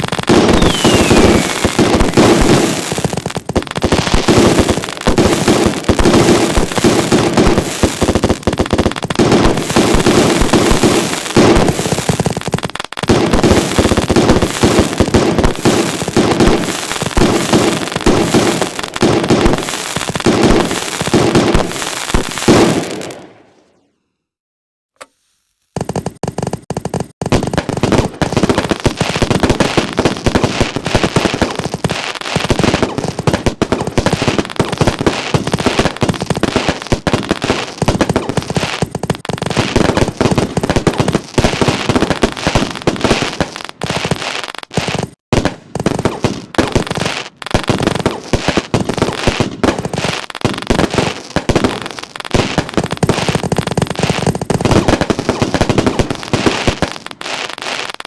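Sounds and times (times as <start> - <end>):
fireworks bangs and crackles: 0.0 - 23.9, 25.5 - 58.0.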